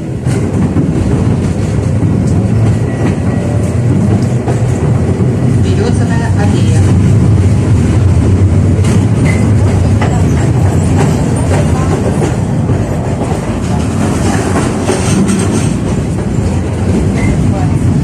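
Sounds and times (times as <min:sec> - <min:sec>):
rail joint clicks: 0:00.0 - 0:18.0
tram wheels rumbling: 0:00.0 - 0:18.0.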